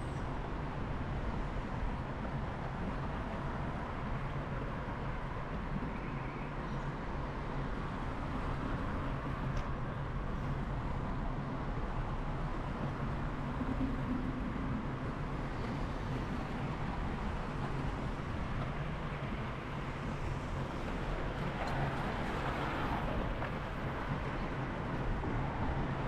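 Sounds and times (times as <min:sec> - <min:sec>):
vehicle rumbling in motion: 0:00.0 - 0:26.0.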